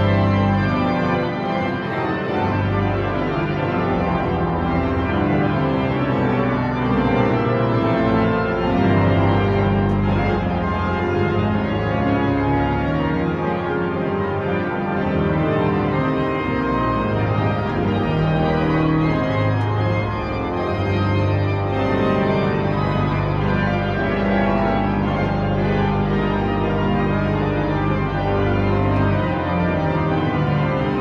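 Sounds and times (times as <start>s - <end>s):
pipe organ playing full chords: 0.0s - 31.0s.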